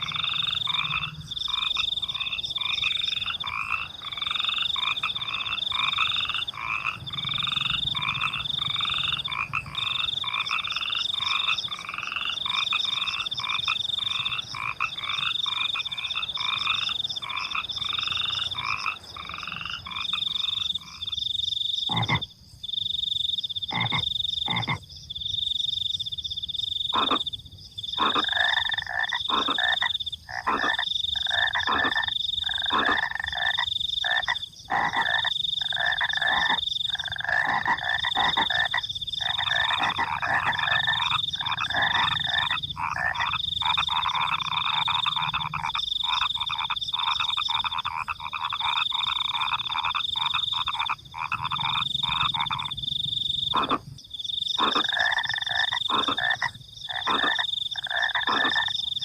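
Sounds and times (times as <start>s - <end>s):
crickets trilling: 0.0s - 59.0s
frogs croaking: 0.0s - 59.0s.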